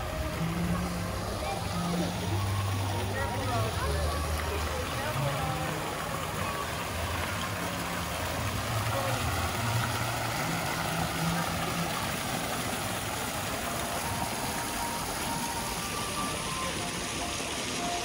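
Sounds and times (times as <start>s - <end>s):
faint voices of passers-by: 0.0s - 18.0s
fountain water splashing into basin: 0.0s - 18.0s.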